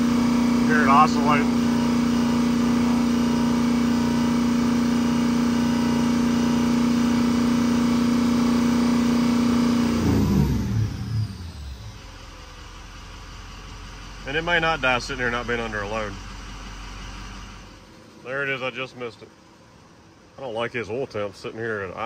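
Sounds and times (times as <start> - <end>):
diesel engine revving: 0.0 - 18.6.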